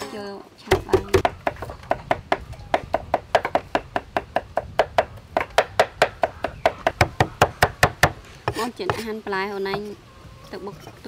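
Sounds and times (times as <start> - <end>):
cleavers chopping on wooden blocks: 0.7 - 9.9.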